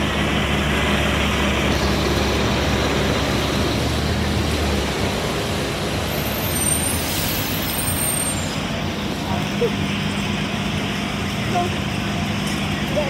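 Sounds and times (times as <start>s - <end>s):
bus engine humming: 0.0s - 13.0s.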